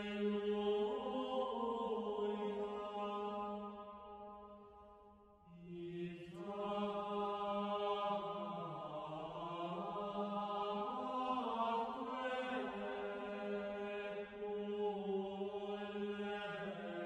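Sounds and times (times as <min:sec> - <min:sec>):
slow chanting voices: 0:00.0 - 0:17.0.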